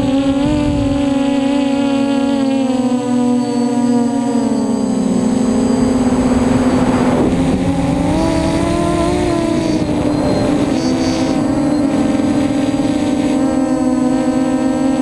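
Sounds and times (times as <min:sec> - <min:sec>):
wind on microphone: 0:00.0 - 0:04.0, 0:04.6 - 0:15.0
quadcopter motors whining: 0:00.0 - 0:15.0.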